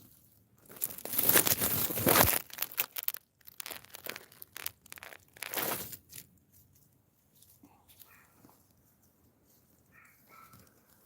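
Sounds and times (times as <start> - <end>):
rustling and crumpling: 0.0 - 11.0.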